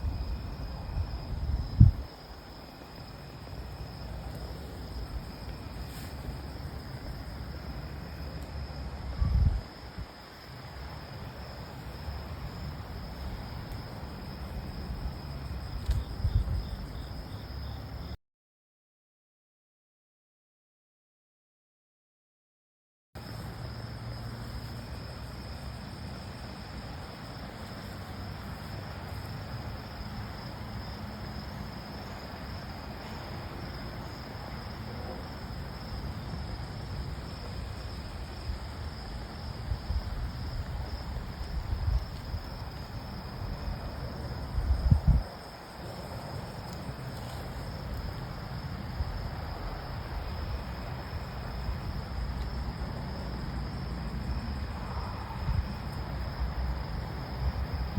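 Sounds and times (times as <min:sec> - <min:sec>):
insects trilling: 0:00.0 - 0:18.2, 0:23.2 - 0:57.9.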